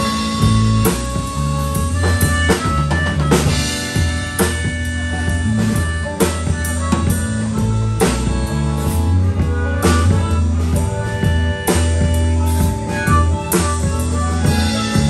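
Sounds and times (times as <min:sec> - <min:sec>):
drum kit accented hits: 0:00.0 - 0:15.0
harmonica: 0:00.0 - 0:15.0
rock band playing: 0:00.0 - 0:15.0.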